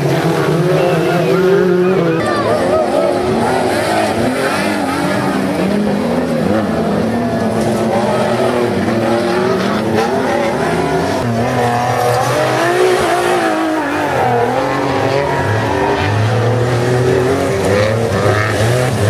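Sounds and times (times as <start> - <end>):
race truck engines revving: 0.0 - 19.0.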